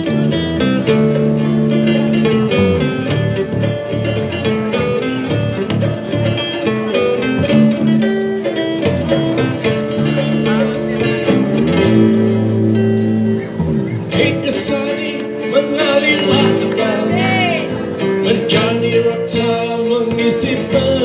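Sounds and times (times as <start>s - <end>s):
bass line: 0.0s - 21.0s
guitar chords: 0.0s - 21.0s
keyboard chords: 0.0s - 21.0s
percussion beat: 0.0s - 21.0s.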